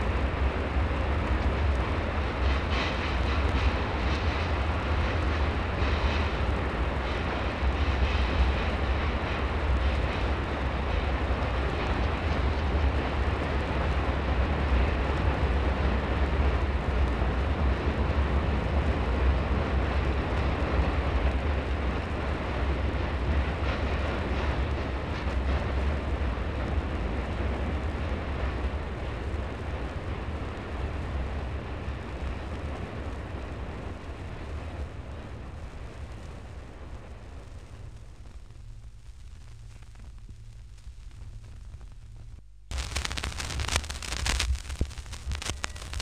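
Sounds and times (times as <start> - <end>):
steam freight train rumbling: 0.0 - 38.0.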